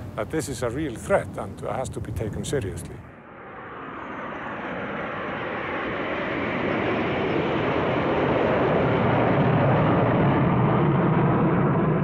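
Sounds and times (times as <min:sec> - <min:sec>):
jet airliner roar: 0:00.0 - 0:12.0.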